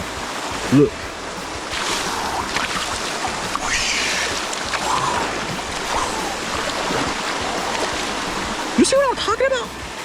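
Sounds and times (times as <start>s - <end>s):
water splash: 0.0s - 10.0s
waterfall pouring into pool: 0.0s - 10.0s.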